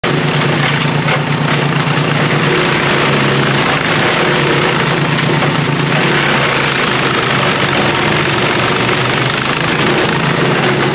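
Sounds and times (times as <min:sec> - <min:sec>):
wood chipper engine running: 0:00.0 - 0:10.9.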